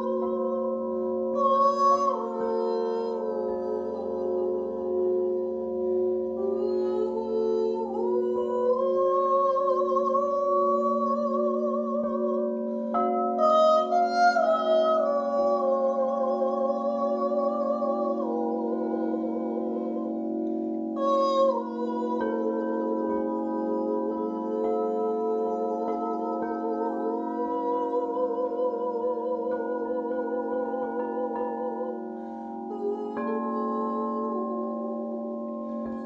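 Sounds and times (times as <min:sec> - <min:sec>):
crystal singing bowls ringing: 0:00.0 - 0:36.0.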